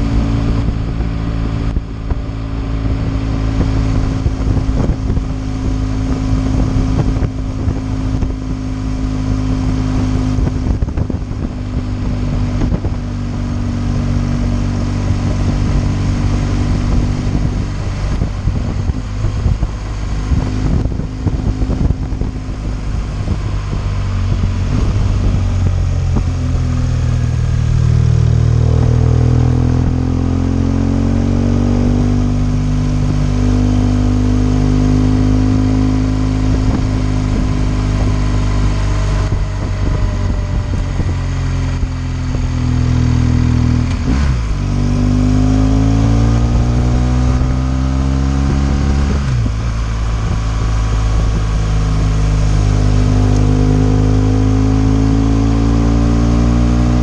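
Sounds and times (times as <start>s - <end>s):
motorcycle engine: 0.0s - 57.0s
wind on microphone: 0.0s - 57.0s.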